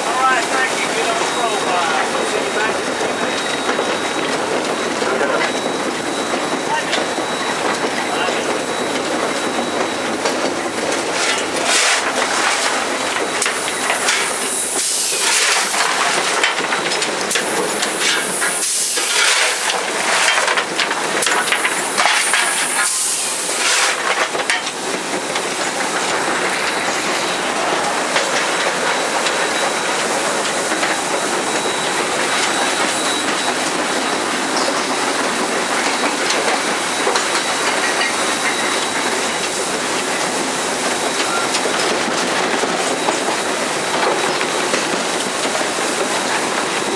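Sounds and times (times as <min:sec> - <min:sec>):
steam hissing: 0:00.0 - 0:46.9
steam train rumble: 0:00.0 - 0:46.9.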